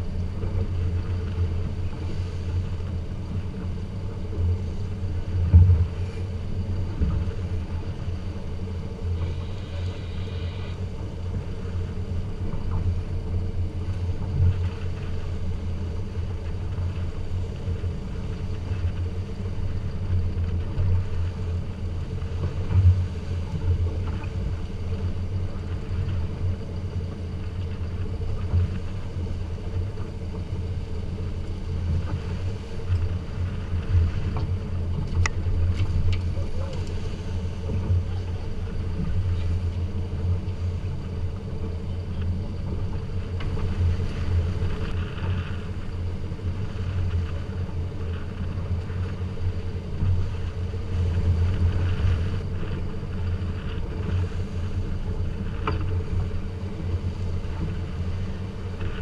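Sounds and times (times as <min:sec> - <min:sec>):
boat engine drone: 0:00.0 - 0:59.0
rushing water and wind: 0:00.0 - 0:59.0.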